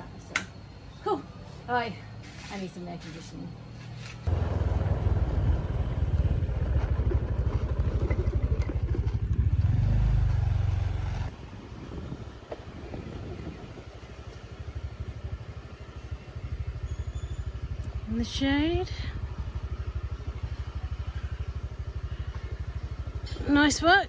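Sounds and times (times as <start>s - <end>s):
motor scooter engine running: 4.3s - 24.0s.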